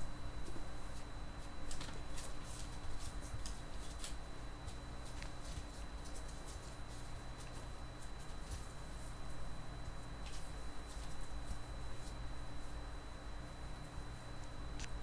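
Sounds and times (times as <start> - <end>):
faint steady hum: 0.0 - 15.0
puppies scrabbling on newspaper: 0.4 - 12.6.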